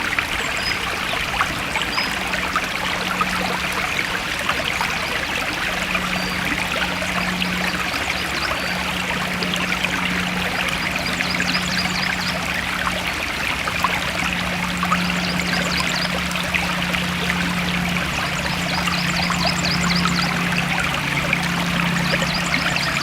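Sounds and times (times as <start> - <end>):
stream flowing and splashing: 0.0 - 23.0.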